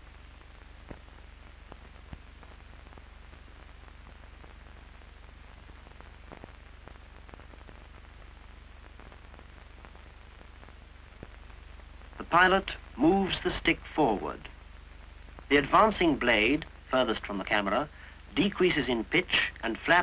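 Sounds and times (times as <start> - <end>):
film soundtrack hiss and hum: 0.0 - 20.0.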